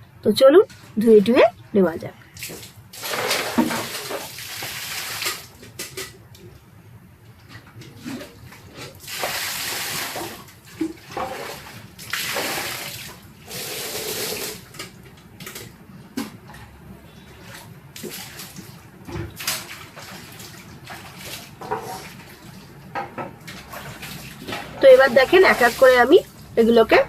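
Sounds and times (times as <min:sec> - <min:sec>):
tap water gushing into sink: 0:02.4 - 0:06.1, 0:07.5 - 0:16.4, 0:17.2 - 0:26.6.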